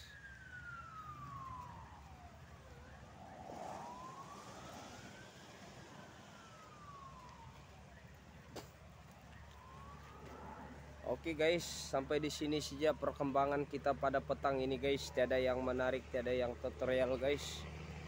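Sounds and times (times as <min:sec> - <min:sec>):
distant ambulance siren wailing: 0:00.0 - 0:18.0.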